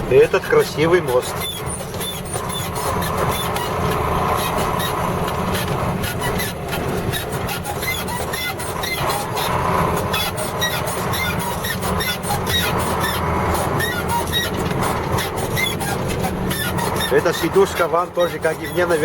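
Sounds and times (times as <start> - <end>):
cab rattles and clicks: 0.0 - 19.0
diesel truck engine droning: 0.0 - 19.0.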